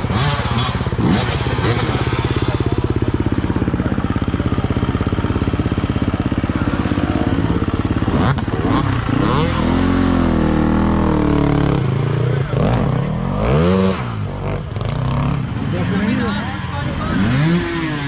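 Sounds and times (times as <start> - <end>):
dirt bike engines idling and revving: 0.0 - 18.0.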